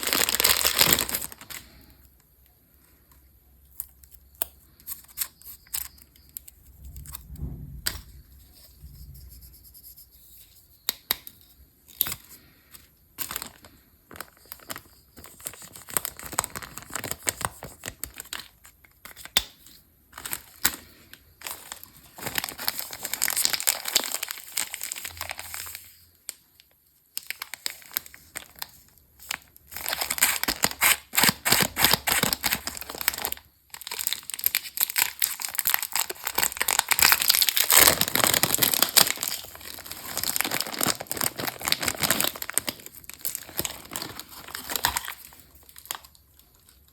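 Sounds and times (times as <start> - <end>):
candy wrappers crinkling and tearing: 0.0 - 2.4, 11.1 - 46.9.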